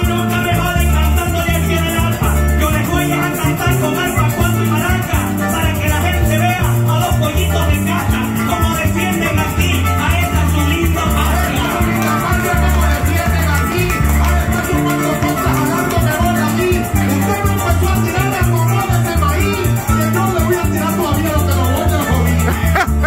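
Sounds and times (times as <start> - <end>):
electric bass line: 0.0 - 23.0
maracas shaking: 0.0 - 23.0.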